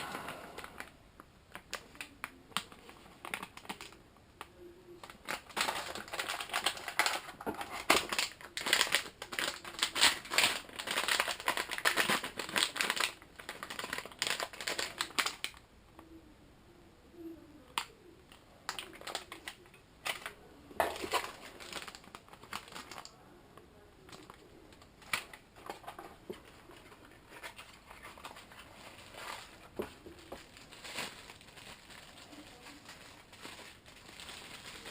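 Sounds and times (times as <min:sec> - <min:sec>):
packaging crinkling: 0:00.0 - 0:04.0, 0:04.9 - 0:15.6, 0:18.7 - 0:23.2, 0:24.0 - 0:34.9.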